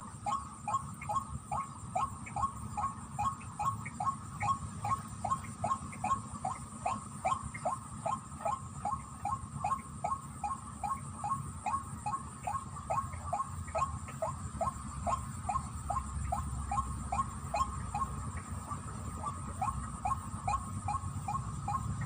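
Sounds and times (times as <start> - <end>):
low steady rumble: 0.0 - 22.0
waterhen calling: 0.0 - 22.0.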